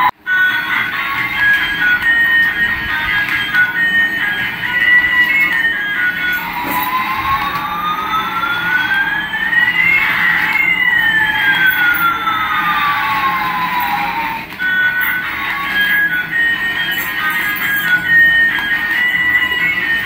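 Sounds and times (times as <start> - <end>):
electronic siren-like wail: 0.0 - 20.0
music: 0.0 - 20.0.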